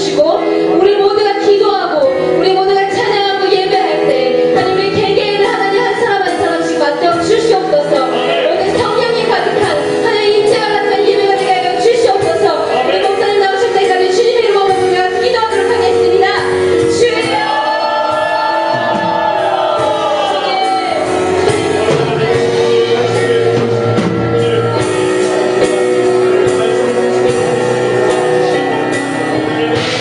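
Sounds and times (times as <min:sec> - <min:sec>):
band playing: 0:00.0 - 0:30.0
worship singing: 0:02.1 - 0:30.0.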